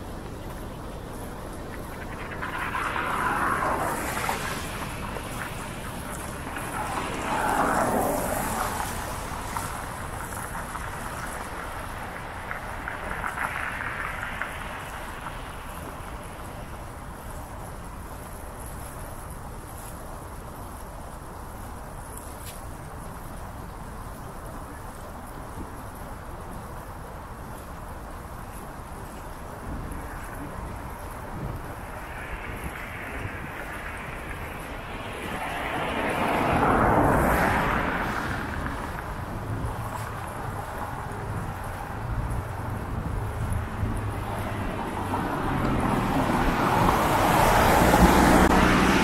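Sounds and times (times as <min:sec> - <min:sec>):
vehicles swishing past on wet road: 0:00.0 - 0:49.0
wind rush from cycling: 0:00.0 - 0:49.0.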